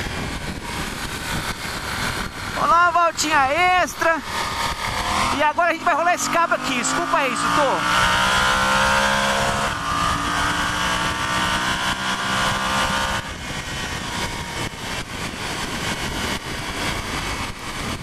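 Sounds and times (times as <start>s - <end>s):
heavy wind rush: 0.0s - 18.0s
motorcycle engine at full throttle: 0.0s - 18.0s.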